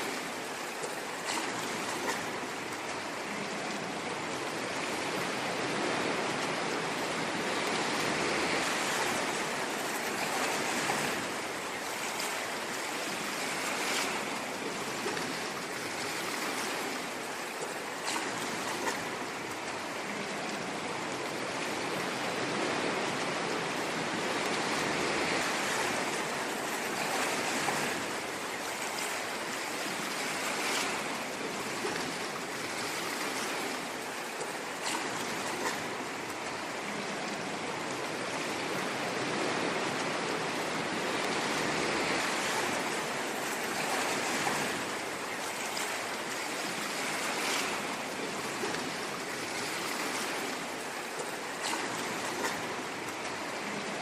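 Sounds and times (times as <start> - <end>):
ocean waves on shore: 0.0 - 54.0.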